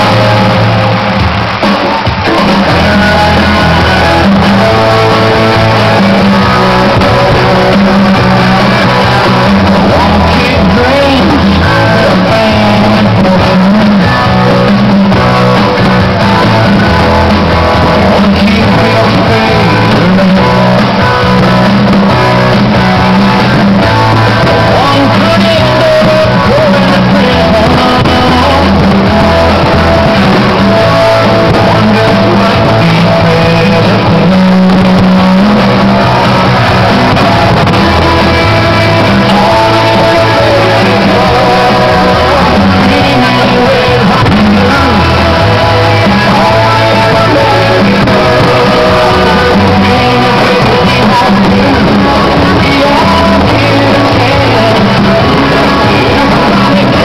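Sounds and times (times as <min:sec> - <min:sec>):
rock music with singer and guitar: 0:00.0 - 0:57.0.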